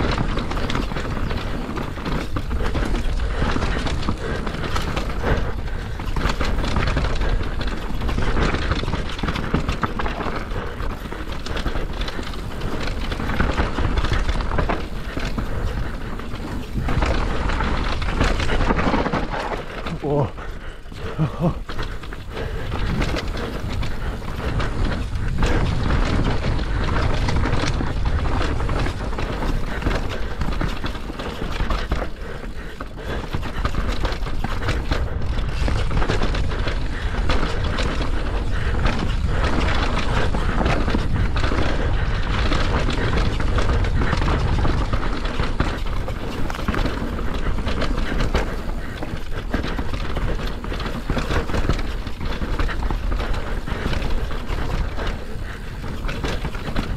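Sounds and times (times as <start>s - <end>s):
bike clattering over dirt: 0.0s - 56.9s
wind buffeting microphone: 0.0s - 56.9s.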